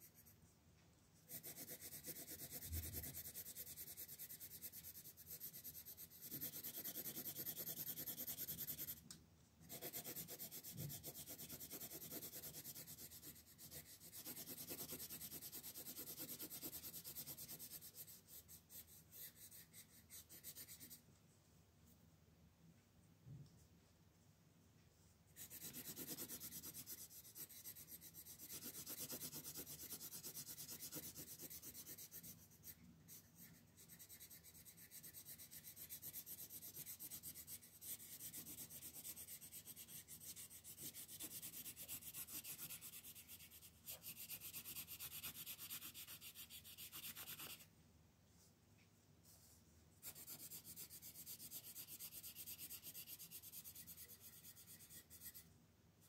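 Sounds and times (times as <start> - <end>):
pencil scratching on paper: 1.3 - 9.0, 9.6 - 21.0, 25.4 - 47.7, 50.0 - 55.5.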